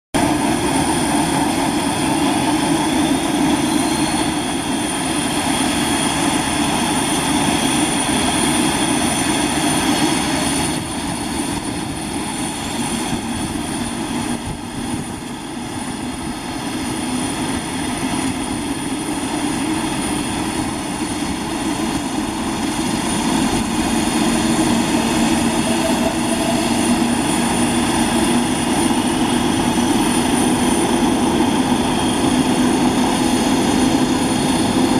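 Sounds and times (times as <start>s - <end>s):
high turbine whine: 0.2s - 34.9s
propeller drone: 0.2s - 34.9s.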